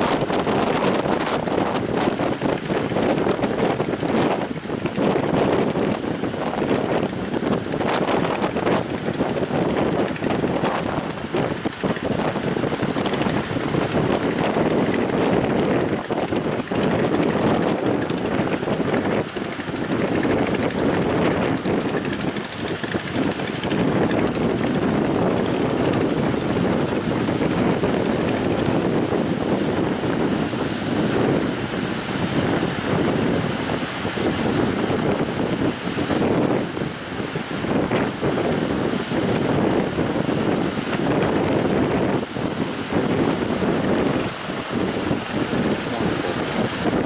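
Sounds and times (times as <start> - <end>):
sea waves: 0.0 - 47.0
strong wind on microphone: 0.0 - 47.0.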